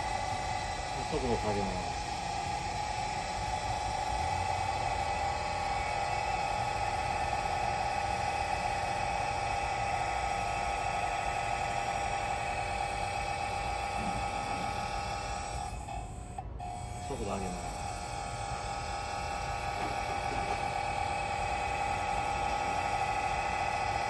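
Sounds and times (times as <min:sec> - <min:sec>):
mechanical hum: 0:00.0 - 0:24.0
motor whine: 0:00.0 - 0:24.0.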